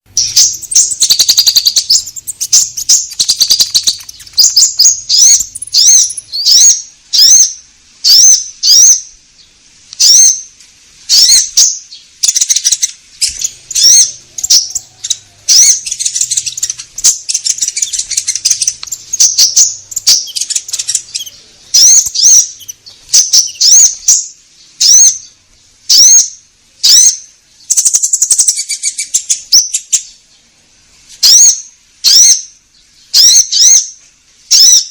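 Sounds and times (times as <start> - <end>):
high sharp bird chirps: 0.1 - 9.2, 10.0 - 10.5, 11.1 - 30.2, 31.2 - 34.9.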